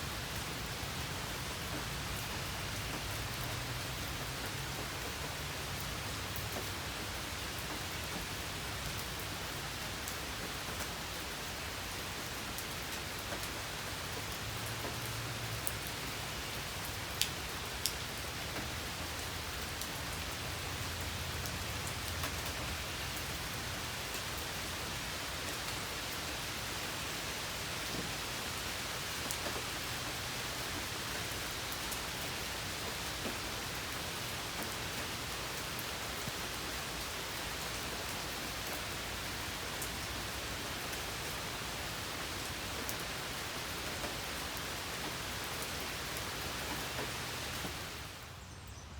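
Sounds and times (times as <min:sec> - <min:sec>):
steady rain falling: 0:00.0 - 0:48.8.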